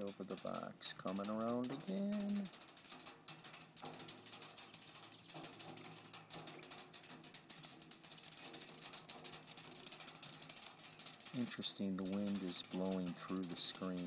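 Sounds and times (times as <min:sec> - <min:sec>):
faint low hum: 0:00.0 - 0:14.0
insects trilling: 0:00.0 - 0:14.0.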